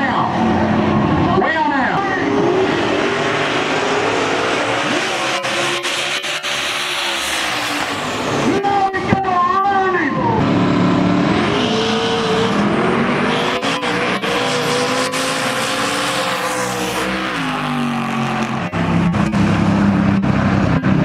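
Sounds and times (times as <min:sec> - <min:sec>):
race car engine pulling hard: 0:00.0 - 0:21.0.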